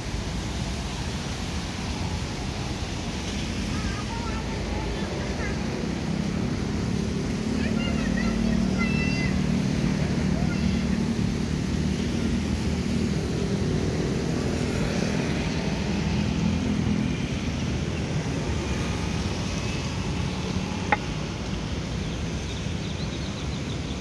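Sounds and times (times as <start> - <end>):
cars and motorbikes passing: 0.0 - 24.0.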